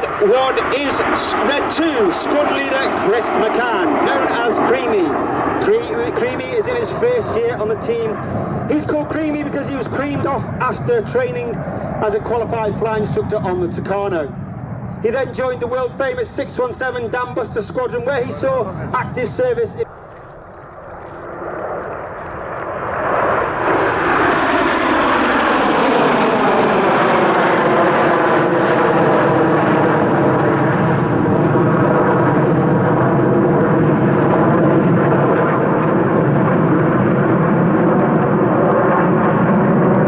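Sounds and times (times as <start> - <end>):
jets roaring past: 0.0 - 40.0.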